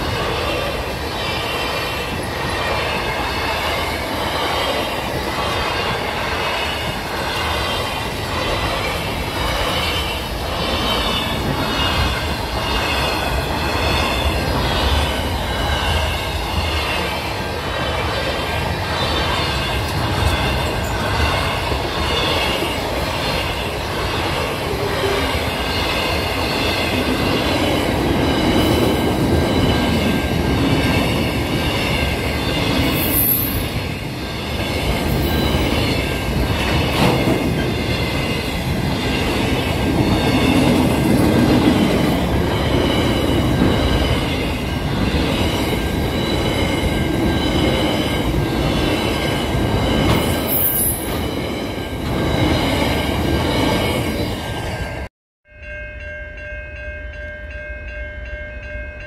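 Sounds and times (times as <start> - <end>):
train wheels rumbling on rails: 0.0 - 55.1.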